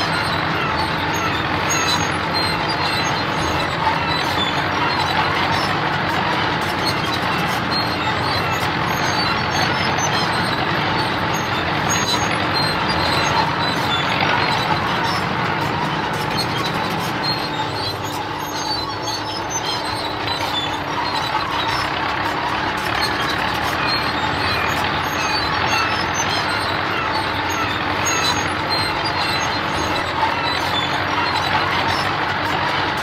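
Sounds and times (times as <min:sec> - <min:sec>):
road roller diesel engine droning: 0:00.0 - 0:33.0.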